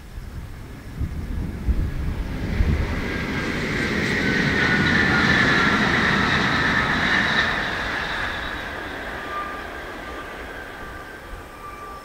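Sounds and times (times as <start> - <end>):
faint high whining tones: 0.0 - 12.0
train rushing past: 0.0 - 12.0.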